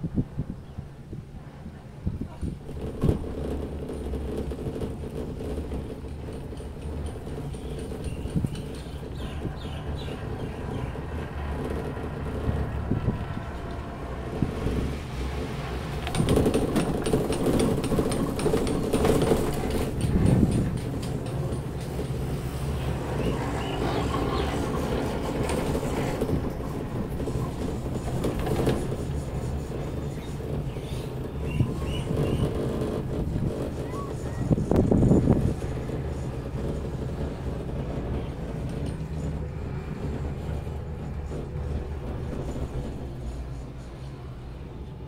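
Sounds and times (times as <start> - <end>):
cable car humming on rope: 0.0 - 45.0
sheave wheels clicking and rattling: 2.4 - 44.6.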